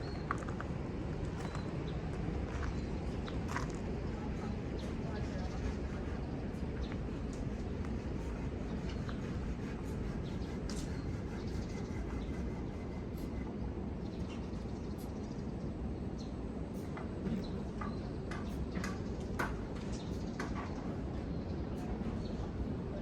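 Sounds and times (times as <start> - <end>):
wind: 0.0 - 23.0.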